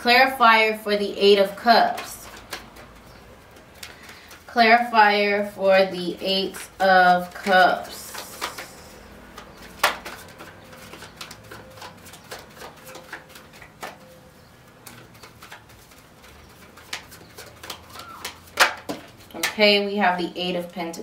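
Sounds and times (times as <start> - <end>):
cards being shuffled: 0.8 - 19.8.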